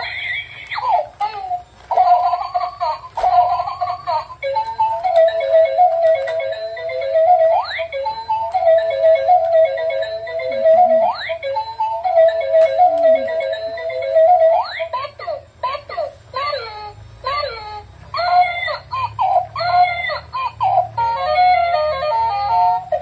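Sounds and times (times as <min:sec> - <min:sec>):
electronic toy beeping melody: 0:00.0 - 0:23.0.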